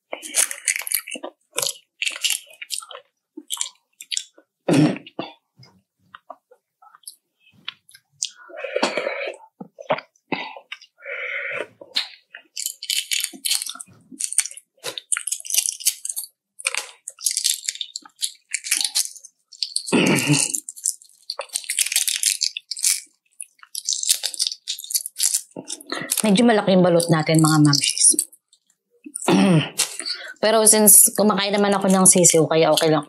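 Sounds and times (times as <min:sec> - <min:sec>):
eggshell cracking and peeling: 0:00.0 - 0:04.6, 0:06.1 - 0:11.0, 0:11.6 - 0:33.0.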